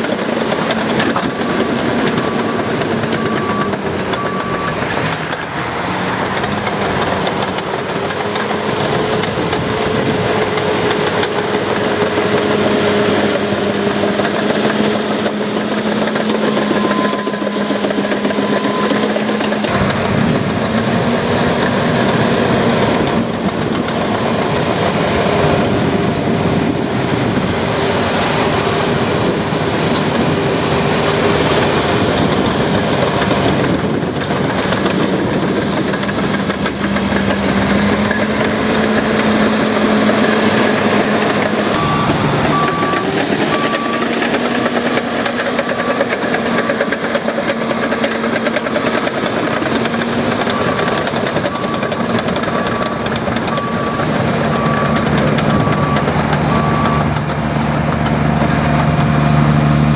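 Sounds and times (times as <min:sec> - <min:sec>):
diesel machinery engines under load: 0:00.0 - 0:59.9
reversing alarm beeping: 0:00.0 - 0:59.9.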